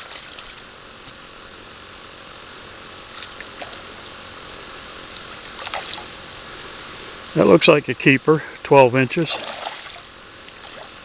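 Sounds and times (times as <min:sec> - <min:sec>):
high-pitched hum: 0:00.0 - 0:11.0.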